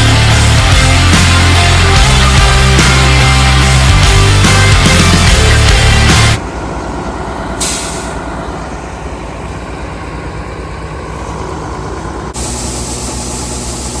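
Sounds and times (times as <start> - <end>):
farm machinery engine humming: 0.0 - 14.0.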